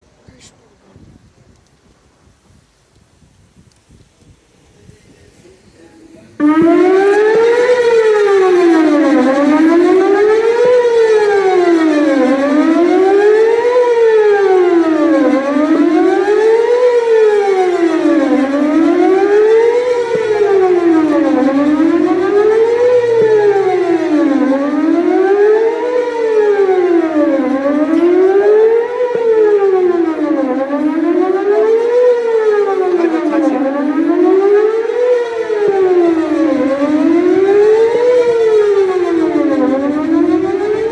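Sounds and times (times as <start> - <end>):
warning siren wailing: 6.1 - 40.9.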